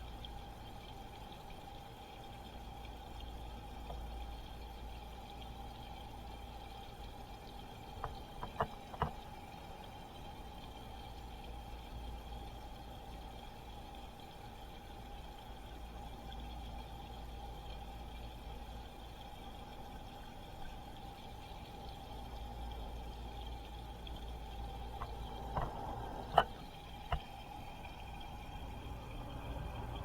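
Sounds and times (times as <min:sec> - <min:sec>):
aquarium equipment hum: 0:00.0 - 0:30.0
water moving in aquarium: 0:00.0 - 0:30.0.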